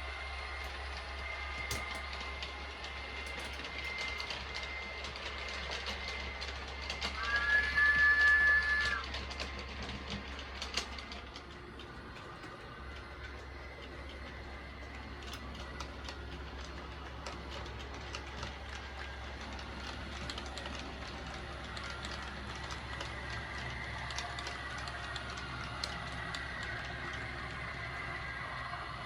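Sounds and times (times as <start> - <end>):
model train wheels clicking: 0.0 - 29.0
motor hum: 0.0 - 29.0.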